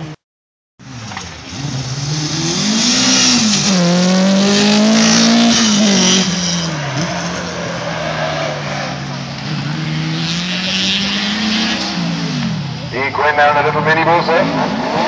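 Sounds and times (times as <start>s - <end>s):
car engine revving: 0.8s - 15.0s.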